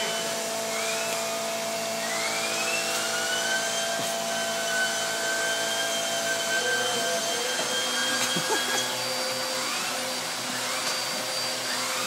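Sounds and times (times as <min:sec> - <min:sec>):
vacuum cleaner whining: 0:00.0 - 0:12.0.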